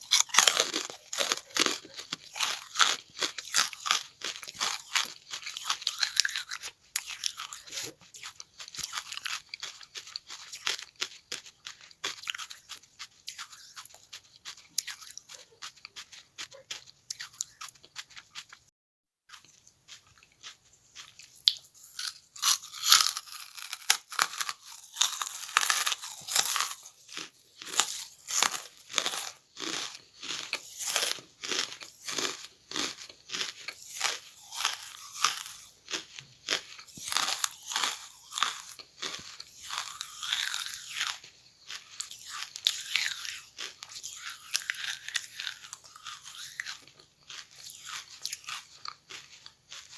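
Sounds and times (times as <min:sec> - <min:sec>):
person crunching charcoal: 0:00.0 - 0:18.6, 0:19.3 - 0:49.9.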